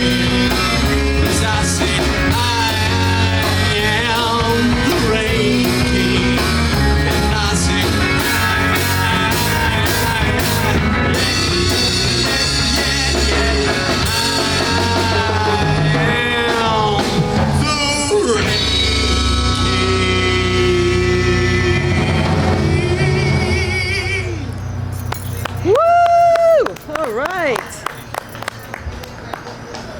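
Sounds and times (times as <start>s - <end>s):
live rock band playing: 0.0s - 25.8s.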